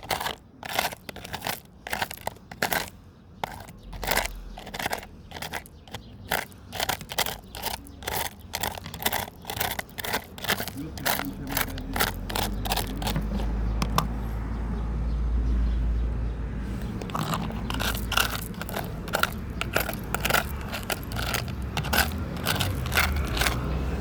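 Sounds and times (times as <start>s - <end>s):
gravel crunching: 0.0s - 14.2s, 16.8s - 24.0s.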